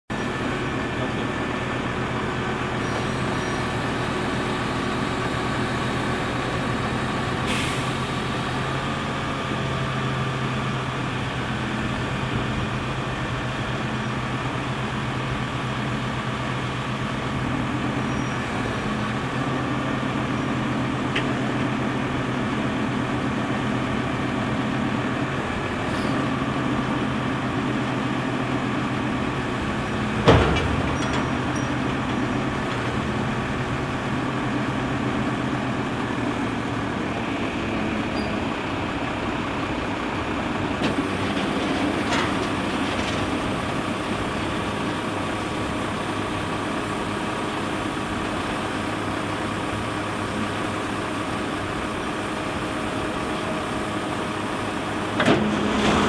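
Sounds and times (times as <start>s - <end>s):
truck engine running: 0.1s - 56.0s.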